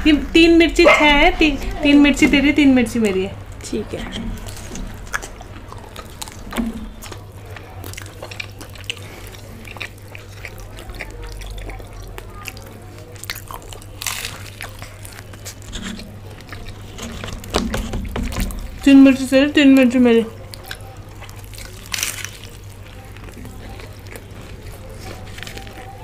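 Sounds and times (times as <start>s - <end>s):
crunchy pastry chewing: 2.9s - 26.0s.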